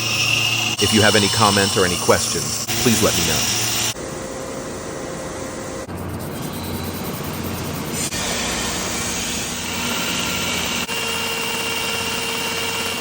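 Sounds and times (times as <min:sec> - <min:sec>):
workshop machinery roaring: 0:00.0 - 0:13.0.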